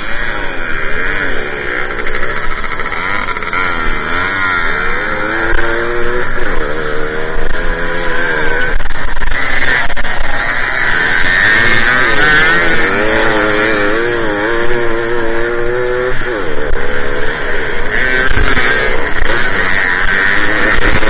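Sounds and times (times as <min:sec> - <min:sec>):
two-stroke moped engine revving: 0:00.0 - 0:21.0.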